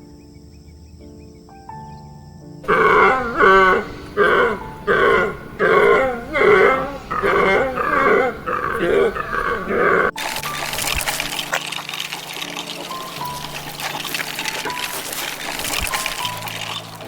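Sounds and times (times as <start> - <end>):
animal calling: 2.6 - 17.0.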